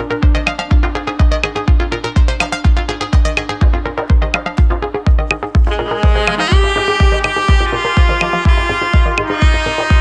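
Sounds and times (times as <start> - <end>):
electronic dance music: 0.0 - 10.0
held synth chord: 0.0 - 10.0
kick drum: 0.0 - 10.0.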